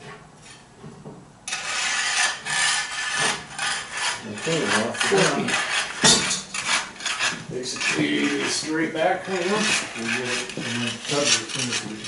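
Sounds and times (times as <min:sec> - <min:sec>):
heavy object scraping concrete: 0:01.5 - 0:12.0.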